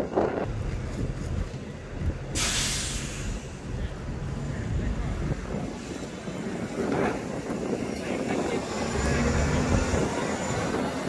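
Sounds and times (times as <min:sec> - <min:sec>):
street traffic: 0:00.0 - 0:11.0
bus driving past: 0:00.1 - 0:11.0.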